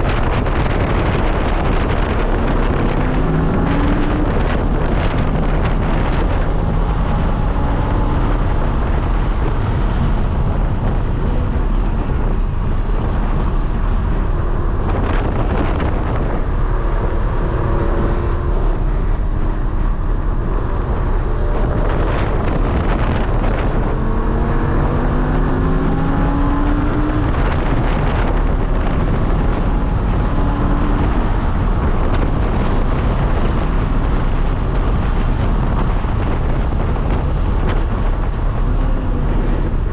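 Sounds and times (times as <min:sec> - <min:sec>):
sports car engine revving: 0:00.0 - 0:39.9
wind and road noise: 0:00.0 - 0:39.9.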